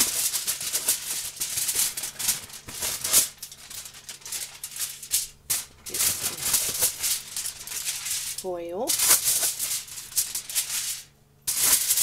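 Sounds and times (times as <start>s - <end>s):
aluminum foil crinkling: 0.0s - 12.0s.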